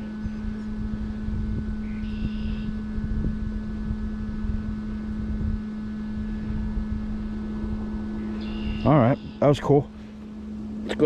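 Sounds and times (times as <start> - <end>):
steady low hum: 0.0 - 11.0
wind rumbling on microphone: 0.0 - 11.0.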